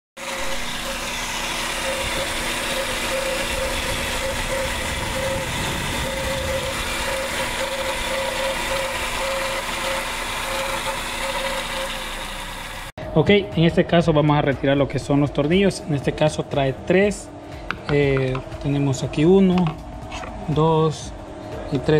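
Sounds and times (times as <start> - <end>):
radiator cooling fan whine: 0.3 - 21.9.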